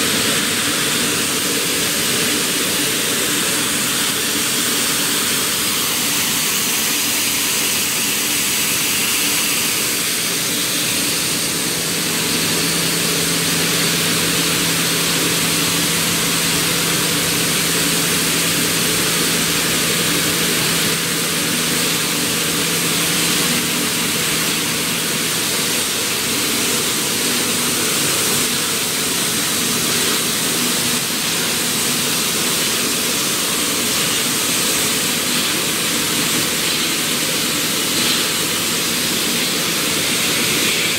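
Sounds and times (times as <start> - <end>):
conveyor machinery hiss: 0.0 - 40.9.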